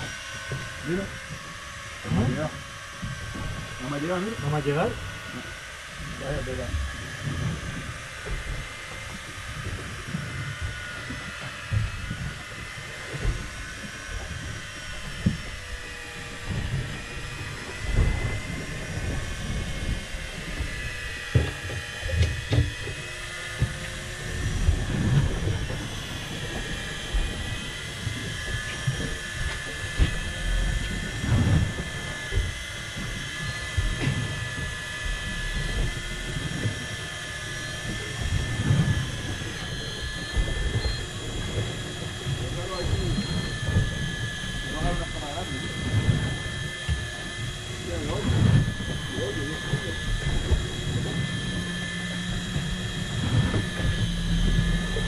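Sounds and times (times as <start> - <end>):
fishing reel motor whine: 0.0 - 55.0
low rumbling: 0.0 - 55.0.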